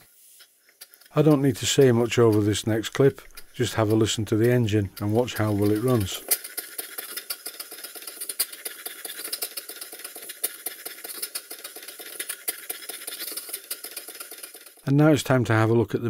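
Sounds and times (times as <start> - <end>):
model steam engine ticking: 0.8 - 14.9.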